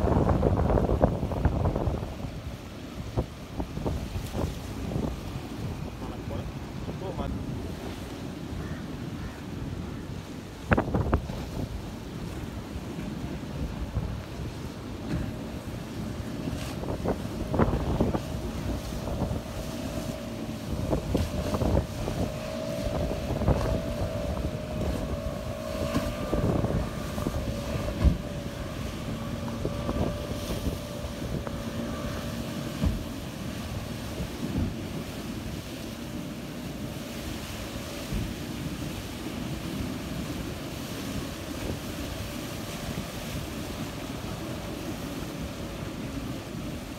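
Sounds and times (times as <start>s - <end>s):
outboard motor running: 0.0s - 46.9s
wind buffeting microphone: 0.0s - 46.9s.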